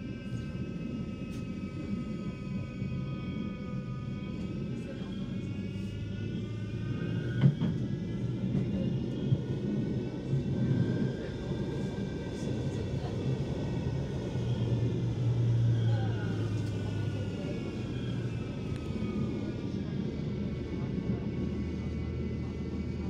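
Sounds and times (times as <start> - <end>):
tram wheels rumbling on rail: 0.0 - 23.0.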